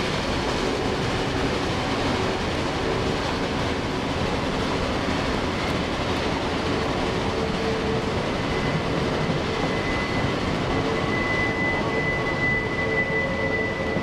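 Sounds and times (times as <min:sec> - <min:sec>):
steel wheels rumbling on rails: 0:00.0 - 0:14.0.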